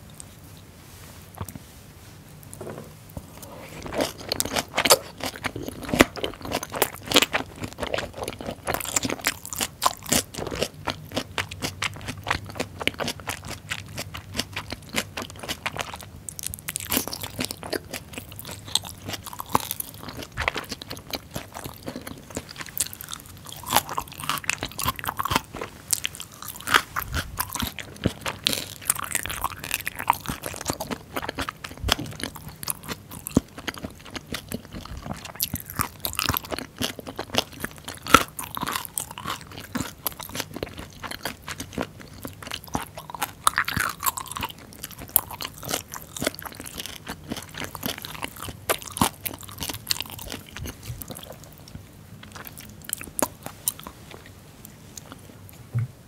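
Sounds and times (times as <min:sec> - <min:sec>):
wet chewing: 0:03.3 - 0:55.6.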